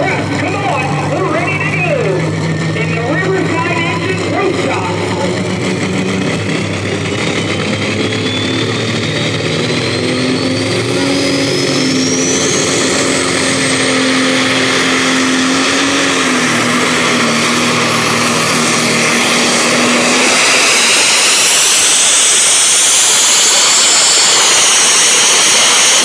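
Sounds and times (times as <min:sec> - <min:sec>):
diesel engine running flat out: 0:00.0 - 0:26.0
high turbo whine: 0:00.0 - 0:26.0.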